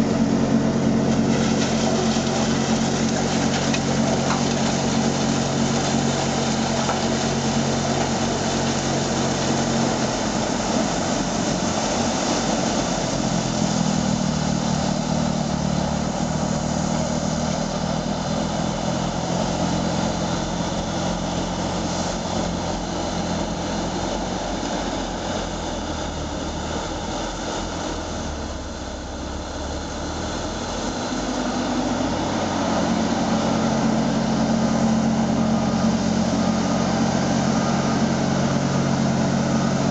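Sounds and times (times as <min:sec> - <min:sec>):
snow blower throwing snow: 0:00.0 - 0:39.9
wheel loader diesel engine: 0:00.0 - 0:39.9.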